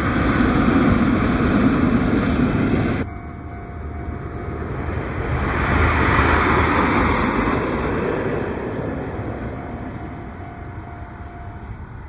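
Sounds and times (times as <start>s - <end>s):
electric train rushing rumble: 0.0s - 12.0s.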